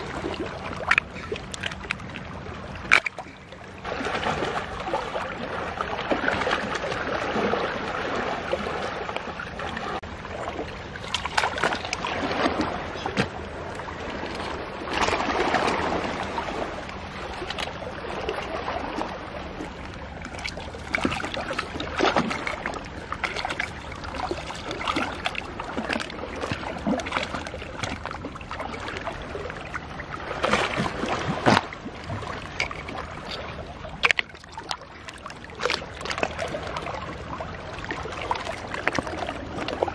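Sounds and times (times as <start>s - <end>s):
seawater lapping around rocks: 0.0s - 39.9s.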